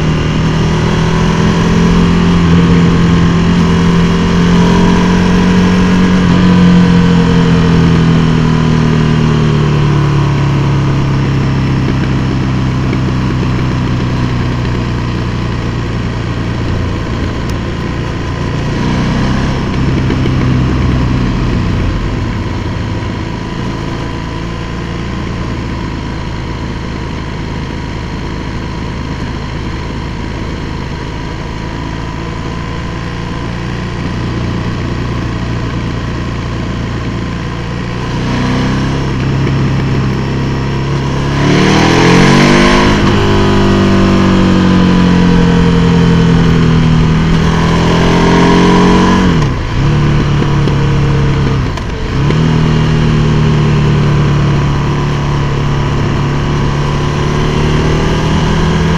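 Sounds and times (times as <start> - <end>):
motorcycle engine running in tunnel: 0.0 - 58.9
wind and road noise: 0.0 - 58.9.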